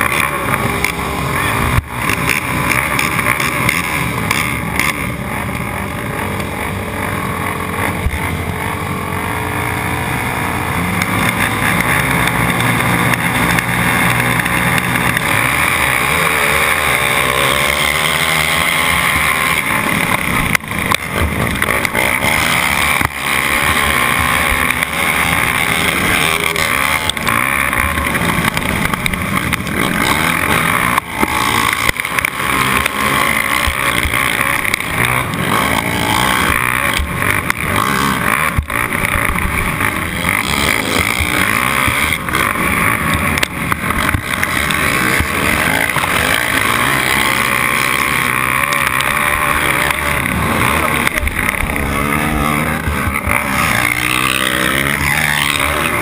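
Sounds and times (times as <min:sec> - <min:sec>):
quad engines at high revs: 0:00.0 - 0:56.0.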